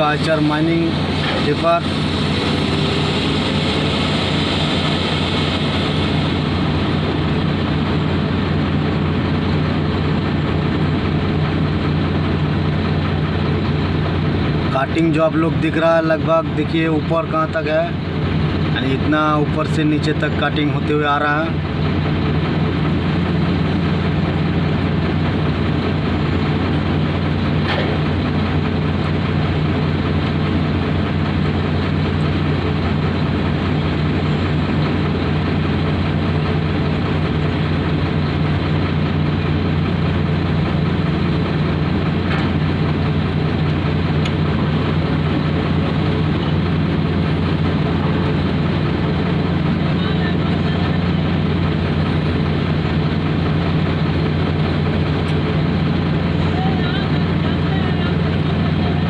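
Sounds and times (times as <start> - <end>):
heavy diesel engines droning: 0.0 - 59.0.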